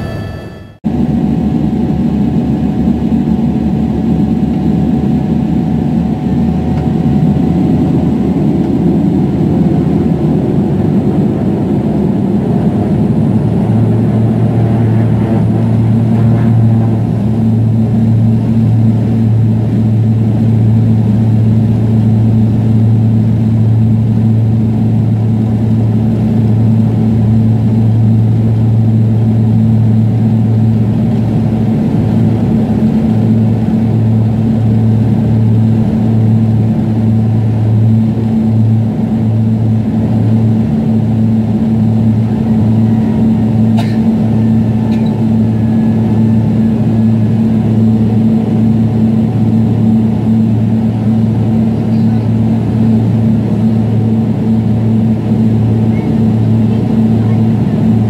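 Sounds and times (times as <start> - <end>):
airliner engines and wheels rumbling: 0.0 - 58.0
steady low hum: 0.0 - 58.0.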